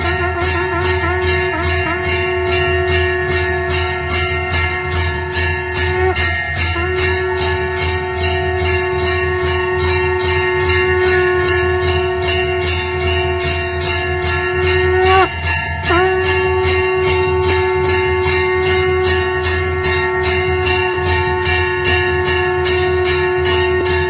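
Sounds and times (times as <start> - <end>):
bell clapper striking: 0.0 - 24.0
steady held ringing tone: 0.0 - 24.0.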